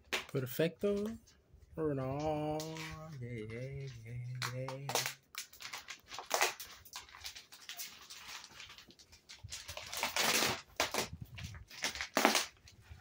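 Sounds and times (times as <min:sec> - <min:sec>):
plastic wrapping crinkling: 0:02.1 - 0:13.0.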